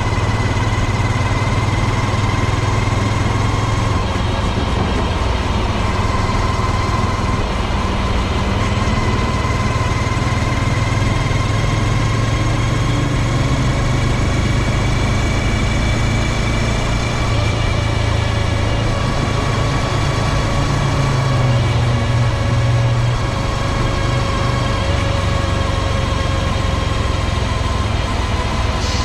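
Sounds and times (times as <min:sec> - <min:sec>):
small motorcycle engine running: 0:00.0 - 0:29.0.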